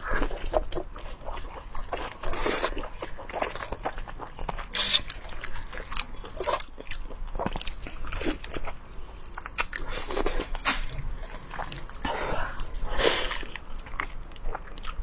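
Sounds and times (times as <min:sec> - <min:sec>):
biting crunching and chewing: 0:00.0 - 0:15.0.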